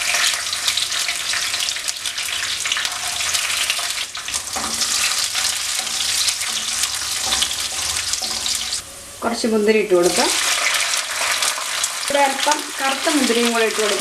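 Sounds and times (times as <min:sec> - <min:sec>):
nuts sizzling in hot fat: 0:00.0 - 0:14.0.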